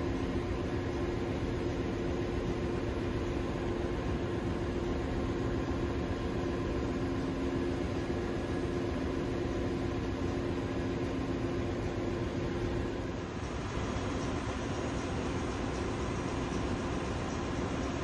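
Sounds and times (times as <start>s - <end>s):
engine-room machinery hum: 0.0s - 18.0s.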